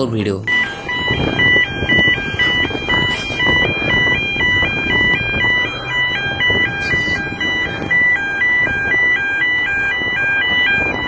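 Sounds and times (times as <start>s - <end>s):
electronic warning alarm: 0.0s - 11.0s.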